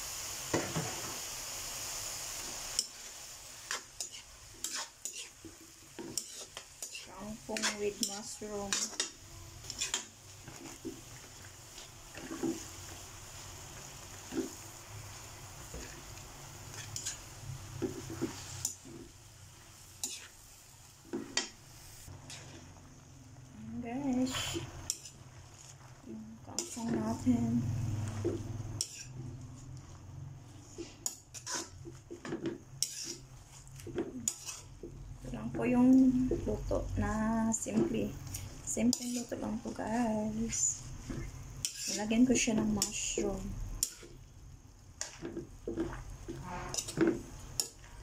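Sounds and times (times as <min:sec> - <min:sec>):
mushrooms sizzling in a frying pan: 0:00.0 - 0:48.0
spatula scraping a pan: 0:02.4 - 0:20.5, 0:21.1 - 0:23.0, 0:24.0 - 0:44.2, 0:45.0 - 0:48.0.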